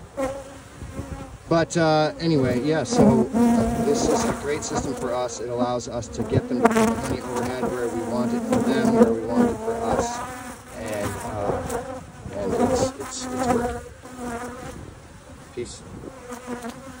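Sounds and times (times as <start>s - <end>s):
bees flying close past: 0.0s - 17.0s
honey bees buzzing: 0.0s - 17.0s.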